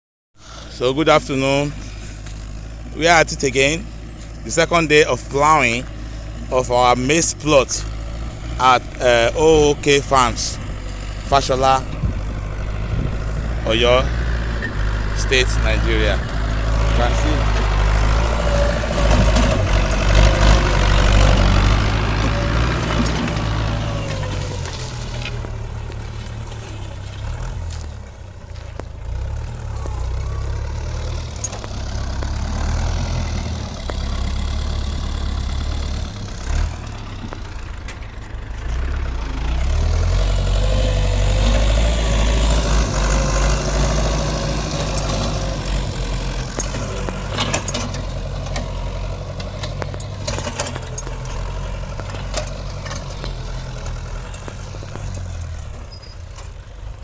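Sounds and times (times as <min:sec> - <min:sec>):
tractor diesel engine running: 0:00.4 - 0:57.0.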